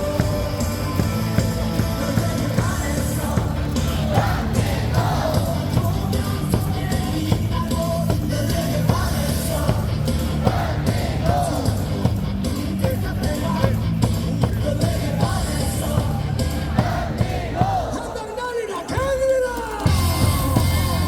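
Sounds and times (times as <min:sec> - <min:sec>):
amplified stadium music with heavy beat: 0:00.0 - 0:21.0
voices singing and yelling: 0:00.0 - 0:21.0.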